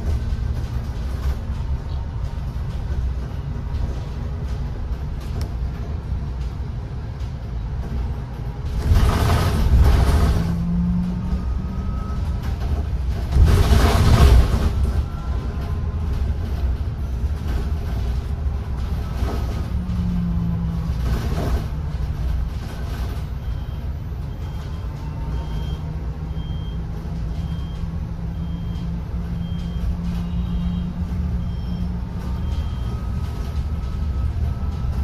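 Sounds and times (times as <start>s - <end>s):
bus road rumble: 0.0s - 35.0s.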